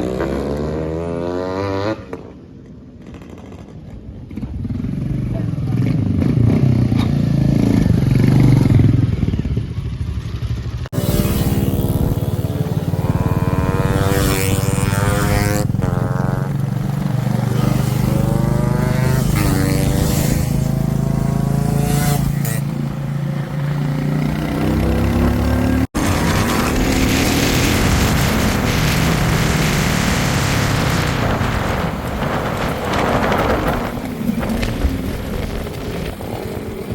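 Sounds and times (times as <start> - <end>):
two-stroke motorcycle engines revving: 3.0 - 36.9.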